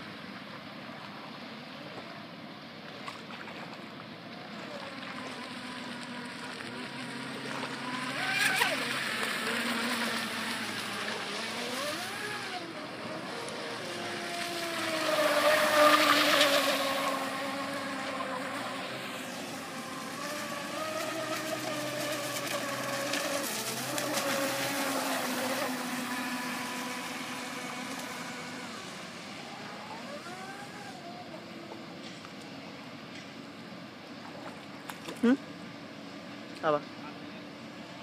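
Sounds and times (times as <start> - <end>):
rc boat motor whine: 4.2 - 38.0.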